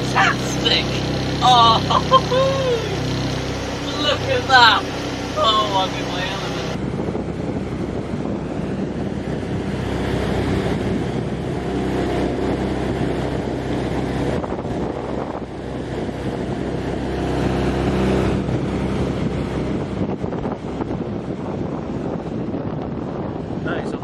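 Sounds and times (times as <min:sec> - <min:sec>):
water rushing past hull: 0:00.0 - 0:23.9
boat diesel engine drone: 0:00.0 - 0:24.0
wind buffeting microphone: 0:00.0 - 0:24.0.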